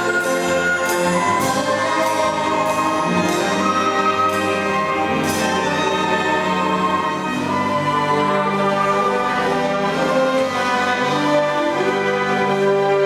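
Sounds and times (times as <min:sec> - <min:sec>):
orchestra playing: 0:00.0 - 0:13.0.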